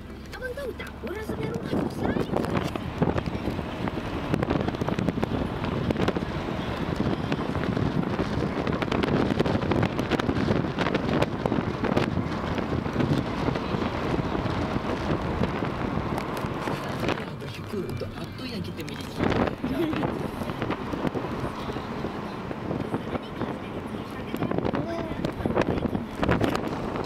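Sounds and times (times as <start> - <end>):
road and traffic noise: 0.0 - 27.0
wind buffeting microphone: 0.0 - 27.0.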